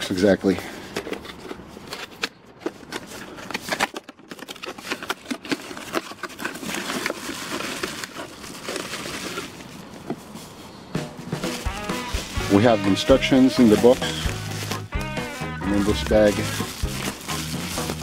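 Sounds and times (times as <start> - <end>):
packing crinkling and rustling: 0.2 - 10.6, 11.4 - 18.0.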